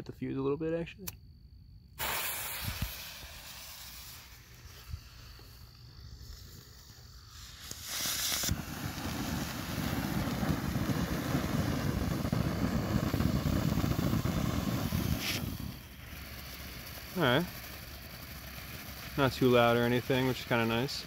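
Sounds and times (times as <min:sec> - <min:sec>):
firework fountain hissing: 0:02.0 - 0:21.0.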